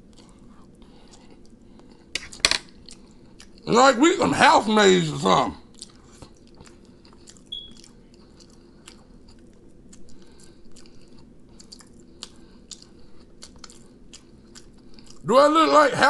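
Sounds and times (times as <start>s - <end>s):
chewing and mouth smacking: 0.0s - 3.7s, 5.6s - 15.2s.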